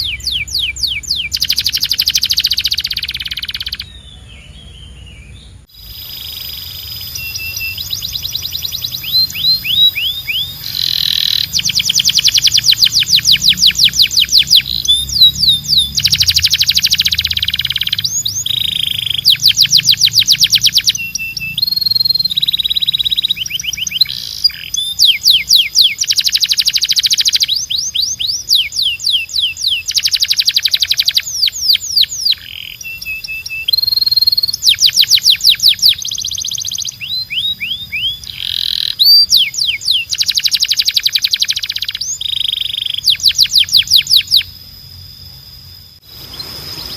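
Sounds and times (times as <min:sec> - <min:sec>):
canary trilling: 0:00.0 - 0:44.6.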